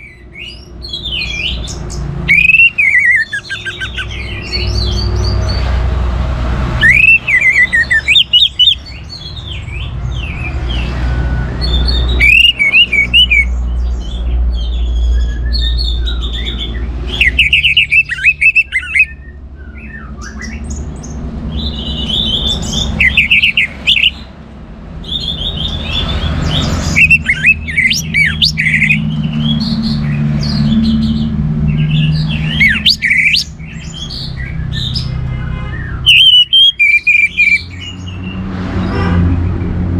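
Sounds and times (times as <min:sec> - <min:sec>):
thrush singing whistled notes: 0:00.0 - 0:05.8, 0:06.6 - 0:24.3, 0:25.0 - 0:38.4.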